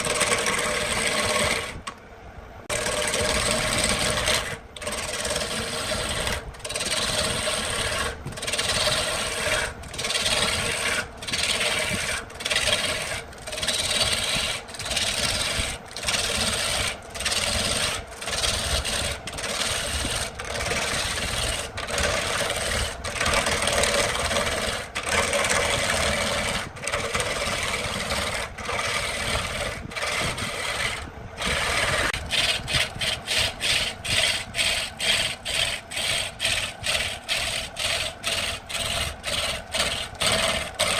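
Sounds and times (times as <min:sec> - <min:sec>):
lathe tool scraping wood: 0:00.0 - 0:02.0, 0:02.7 - 0:40.9.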